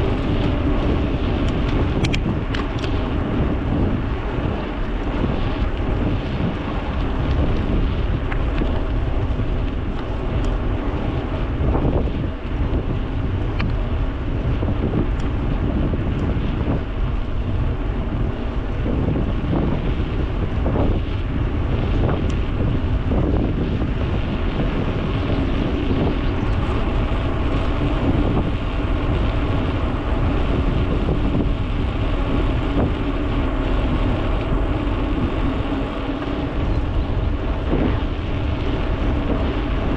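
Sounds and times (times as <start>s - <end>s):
bicycle rolling noise: 0.0s - 39.9s
wind rumbling on microphone: 0.0s - 39.9s.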